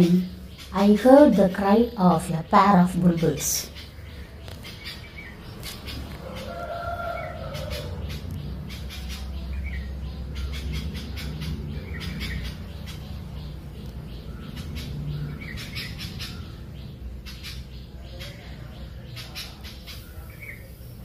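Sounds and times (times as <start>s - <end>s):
bulbuls chirping: 0.0s - 21.0s.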